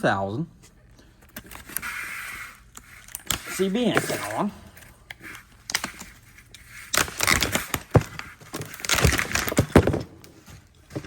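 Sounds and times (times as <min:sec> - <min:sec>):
packaging rustling and crinkling: 0:01.2 - 0:11.0.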